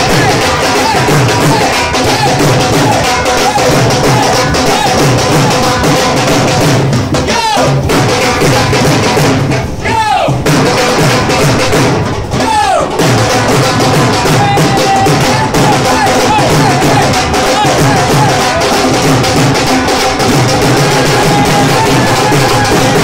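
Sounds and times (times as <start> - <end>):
backing music: 0.0 - 23.0
dhol drum beats: 0.0 - 23.0.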